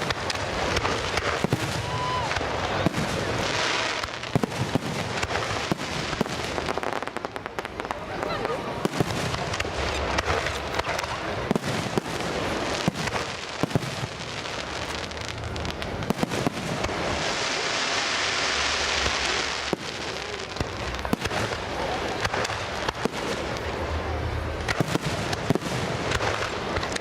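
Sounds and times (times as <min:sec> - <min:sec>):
fireworks bangs and pops: 0:00.0 - 0:27.0
fireworks hissing crackle: 0:00.0 - 0:27.0.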